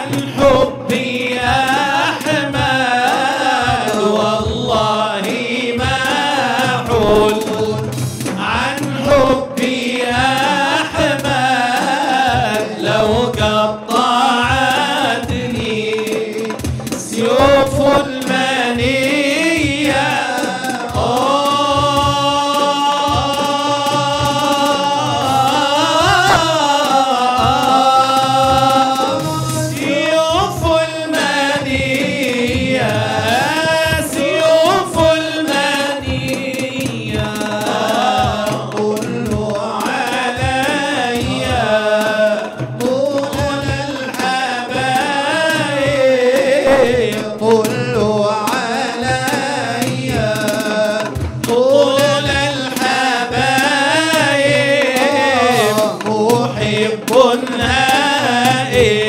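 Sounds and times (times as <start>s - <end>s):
frame drum beating: 0.0s - 59.0s
men singing melismatic chant: 0.0s - 59.0s.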